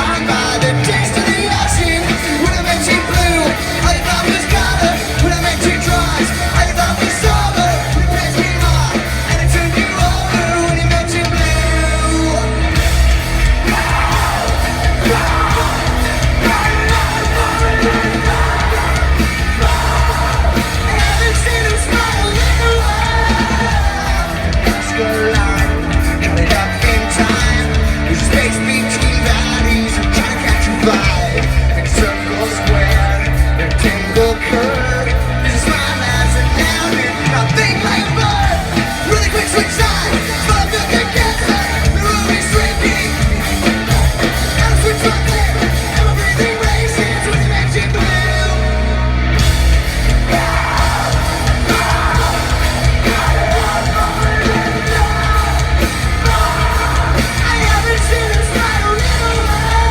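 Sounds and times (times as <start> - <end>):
person yelling and singing: 0.0 - 12.7, 13.4 - 48.8, 50.1 - 59.9
loud live rock band: 0.0 - 59.9.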